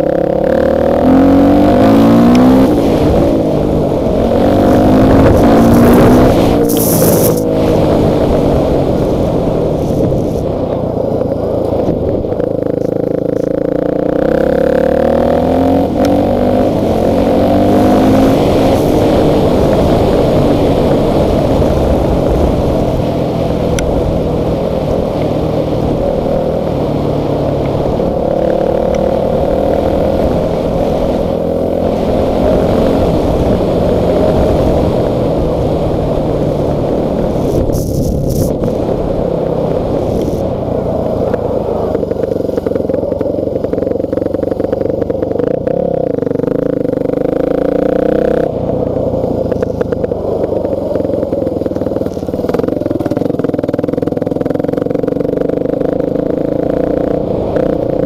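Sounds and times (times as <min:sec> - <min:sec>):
dirt bike engine running: 0:00.0 - 0:58.0
rough rushing noise: 0:00.7 - 0:58.0.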